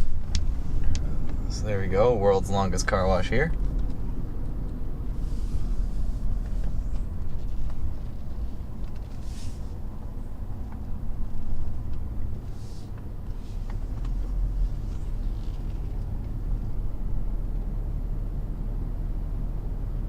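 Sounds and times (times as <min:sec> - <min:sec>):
car rolling rumble: 0:00.0 - 0:20.0.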